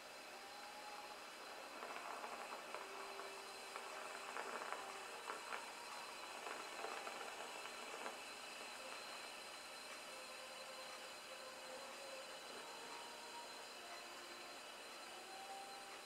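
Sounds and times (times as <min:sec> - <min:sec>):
torch flame hissing: 0:00.0 - 0:16.0
faint crackles: 0:00.4 - 0:16.0.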